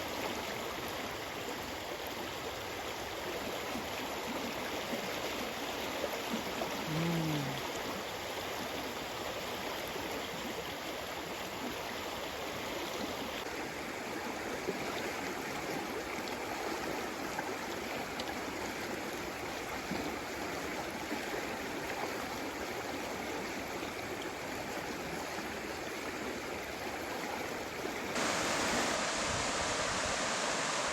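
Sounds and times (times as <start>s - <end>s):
stream water running: 0.0s - 30.9s.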